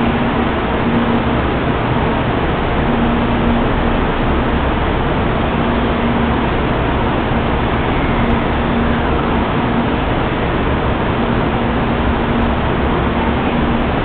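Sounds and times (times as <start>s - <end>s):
low hum: 0.0s - 14.0s
train running noise: 0.0s - 14.0s.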